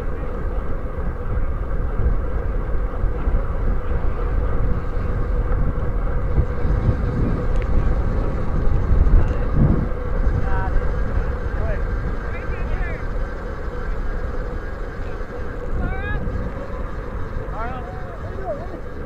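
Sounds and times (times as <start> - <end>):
road rumble: 0.0 - 19.0
steady hum: 0.0 - 19.0
wind rush on microphone: 0.0 - 19.0.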